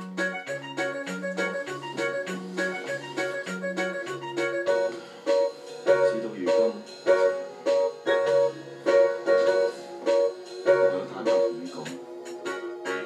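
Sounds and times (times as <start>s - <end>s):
electronic keyboard chords: 0.0s - 13.0s.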